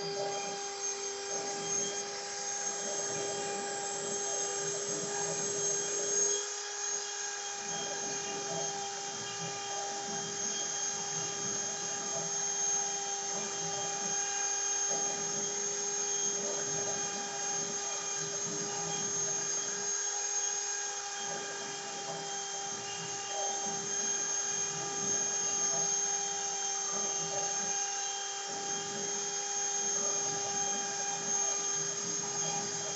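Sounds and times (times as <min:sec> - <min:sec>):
cnc router spindle whine: 0:00.0 - 0:32.9.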